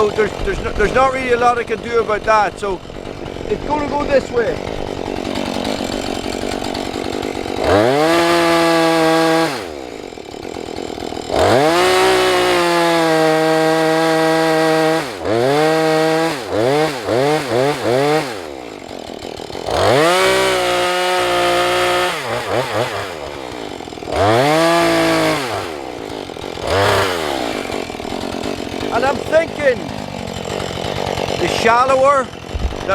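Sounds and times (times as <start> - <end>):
chainsaw idling and revving: 0.0 - 32.9.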